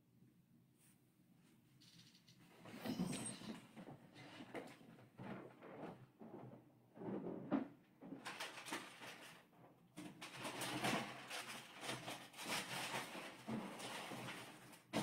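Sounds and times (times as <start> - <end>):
rustling and shuffling: 0.7 - 15.0.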